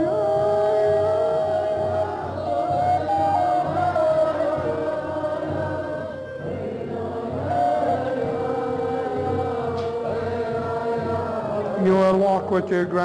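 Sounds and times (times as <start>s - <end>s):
wooden flute playing long notes: 0.0s - 11.6s
voice chanting: 0.0s - 13.0s.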